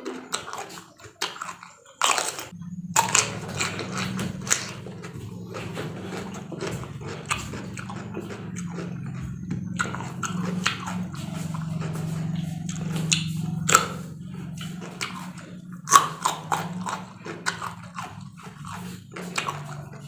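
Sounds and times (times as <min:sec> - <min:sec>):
crunching and chewing vegetables: 0:00.0 - 0:20.0
low steady hum: 0:02.5 - 0:20.0.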